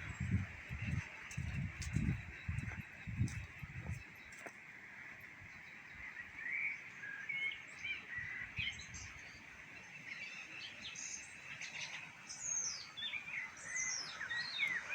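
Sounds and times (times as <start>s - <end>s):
small songbirds chirping: 0.0s - 14.9s.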